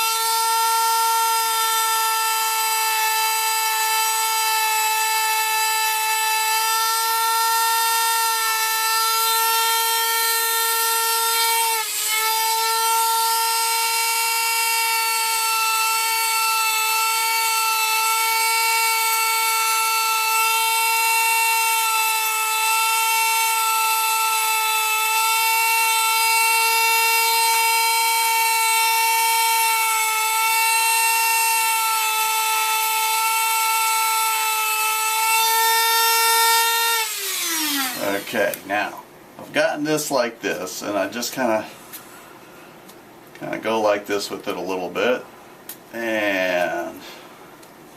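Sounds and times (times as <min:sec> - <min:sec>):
rotary tool sanding whine: 0:00.0 - 0:38.9.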